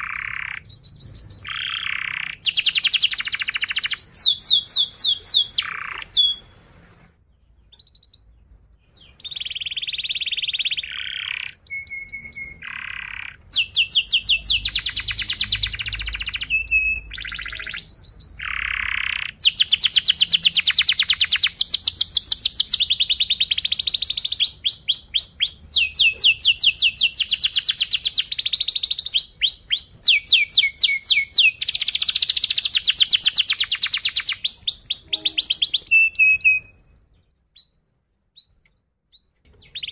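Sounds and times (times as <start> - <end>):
canary singing trills: 0.0 - 6.6, 7.3 - 39.9.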